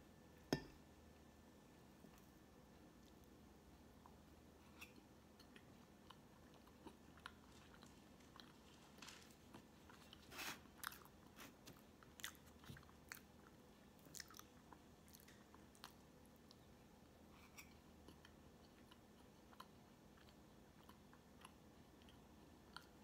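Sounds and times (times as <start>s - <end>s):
mouth chewing cake: 2.1s - 23.0s.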